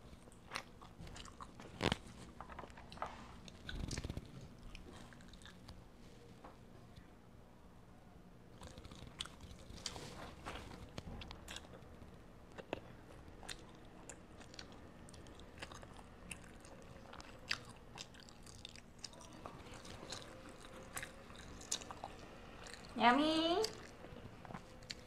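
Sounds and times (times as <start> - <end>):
child chewing with mouth clicks: 0.0 - 7.1, 8.5 - 23.0, 23.6 - 25.0.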